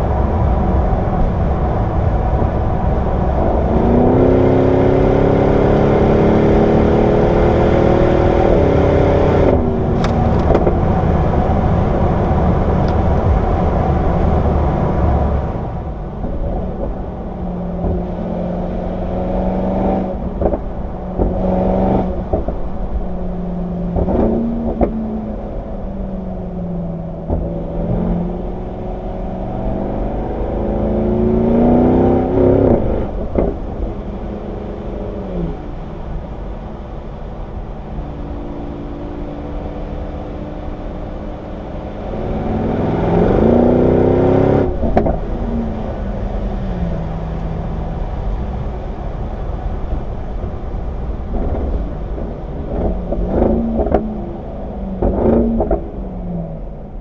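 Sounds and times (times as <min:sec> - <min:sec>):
exhaust cracks: 0:00.0 - 0:38.5, 0:41.0 - 0:57.0
car engine accelerating hard: 0:00.0 - 0:57.0.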